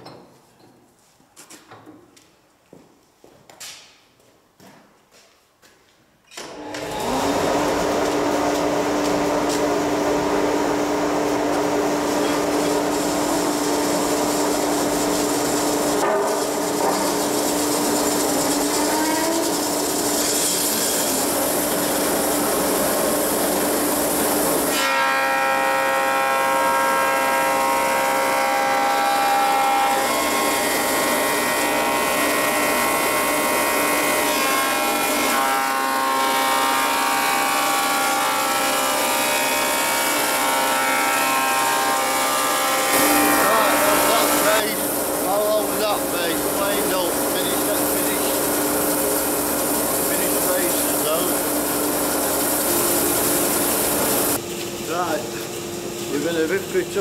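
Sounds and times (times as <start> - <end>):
dust extractor running: 6.4 - 57.0
planer-thicknesser running: 6.5 - 57.0
board being planed: 6.8 - 54.4.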